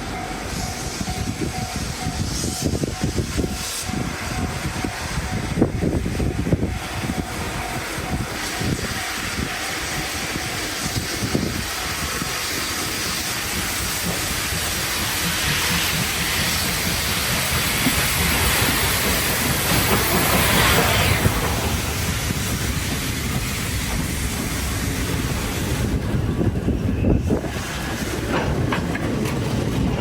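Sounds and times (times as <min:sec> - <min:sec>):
hiss: 0:00.0 - 0:30.0
train wheels rattling on rails: 0:00.0 - 0:30.0.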